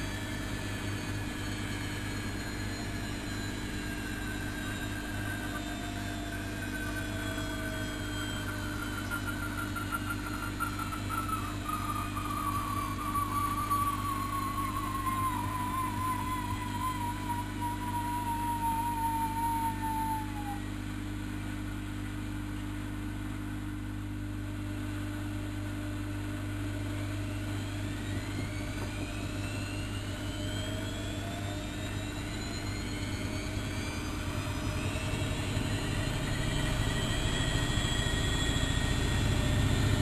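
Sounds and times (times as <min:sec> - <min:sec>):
washing machine drum spinning up: 0:00.0 - 0:22.6, 0:23.8 - 0:40.0.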